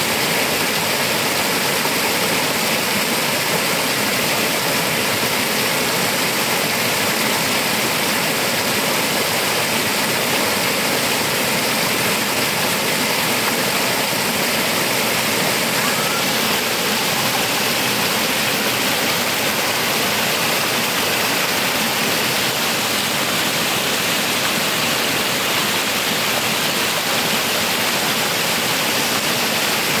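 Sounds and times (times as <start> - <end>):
stream water rushing over rocks: 0.0 - 30.0.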